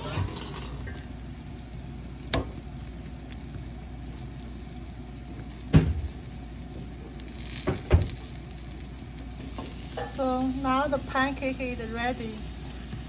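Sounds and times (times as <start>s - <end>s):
pancake sizzling in oil: 0.0s - 13.0s.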